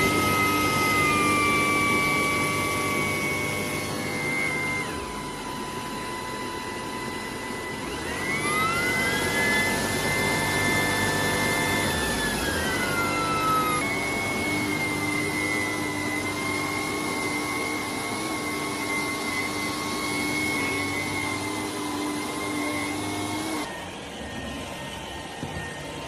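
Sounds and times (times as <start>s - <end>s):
vacuum motor whining: 0.0s - 26.0s.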